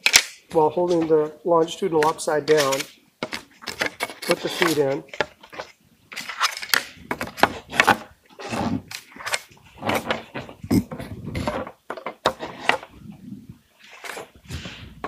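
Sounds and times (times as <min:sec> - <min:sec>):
wooden parts clacking and scraping: 0:01.9 - 0:15.0.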